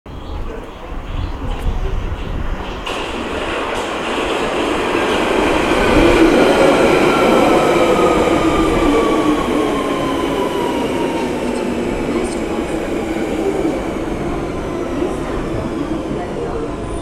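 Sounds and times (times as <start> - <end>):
train wheels rumbling on rails: 0.1 - 17.0
traction motors whining: 0.4 - 17.0.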